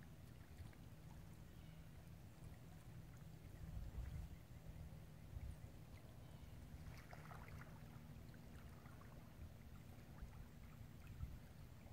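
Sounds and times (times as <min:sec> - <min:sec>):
faint low rumble: 0:00.0 - 0:11.9.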